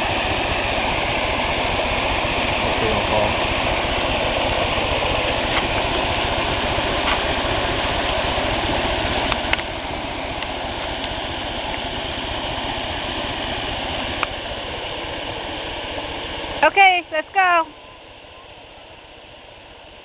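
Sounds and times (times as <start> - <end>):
rushing water: 0.0 - 16.9.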